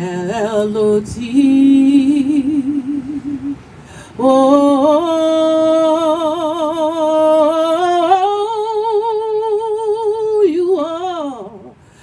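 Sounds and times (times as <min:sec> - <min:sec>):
woman singing with vibrato: 0:00.0 - 0:11.8.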